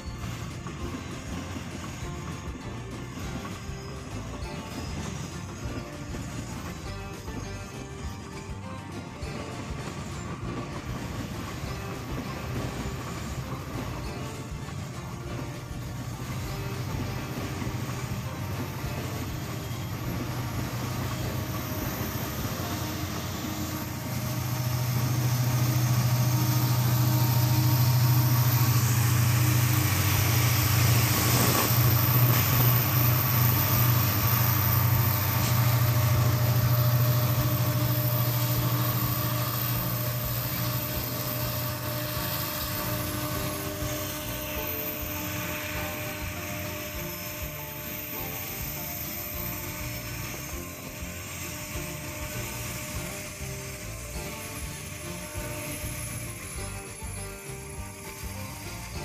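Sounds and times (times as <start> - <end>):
diesel locomotive engine drone: 0.0 - 59.0
train wagons rolling: 0.0 - 59.0.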